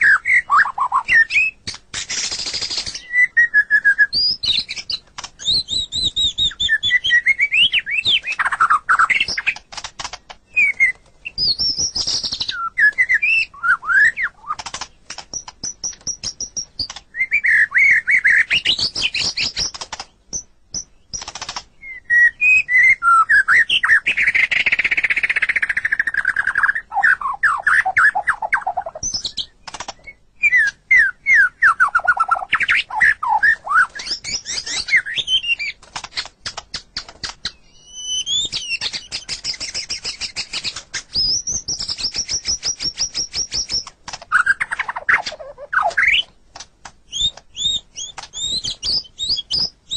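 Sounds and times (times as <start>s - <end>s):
bird singing whistled phrases: 0.0s - 9.6s, 10.5s - 14.6s, 15.3s - 19.7s, 20.7s - 35.8s, 37.4s - 46.3s, 47.1s - 49.9s.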